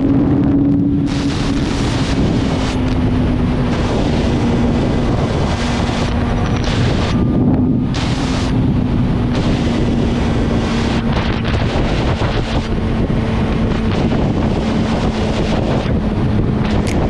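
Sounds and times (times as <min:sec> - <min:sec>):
motorcycle engine drone: 0:00.0 - 0:17.0
wind buffeting microphone: 0:00.0 - 0:17.0.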